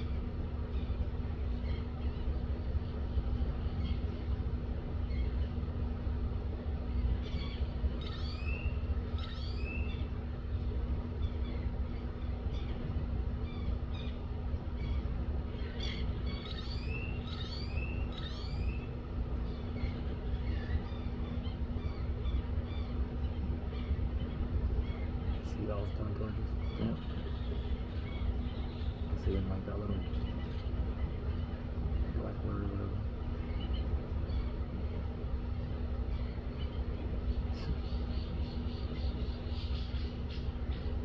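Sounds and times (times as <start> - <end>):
birds chirping: 0.0 - 41.0
constant hum: 0.0 - 41.0
steady low rumble: 0.0 - 41.0.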